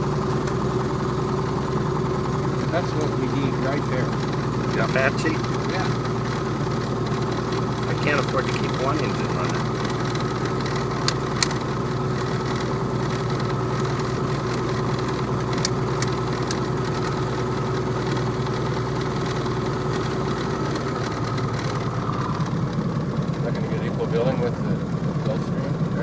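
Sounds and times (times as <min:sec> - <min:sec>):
piston aircraft engine running: 0:00.0 - 0:26.0.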